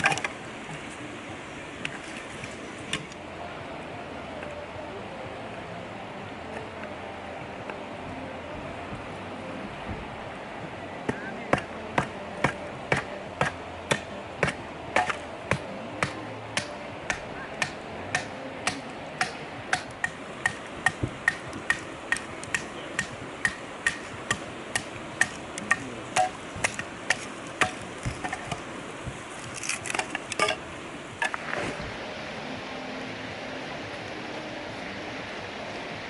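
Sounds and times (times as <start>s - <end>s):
river running: 0.0s - 36.0s.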